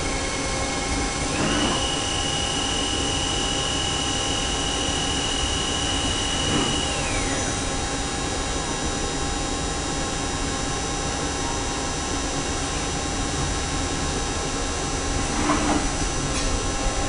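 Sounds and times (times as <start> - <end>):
lathe running with hiss and hum: 0.0 - 10.6, 12.4 - 17.0.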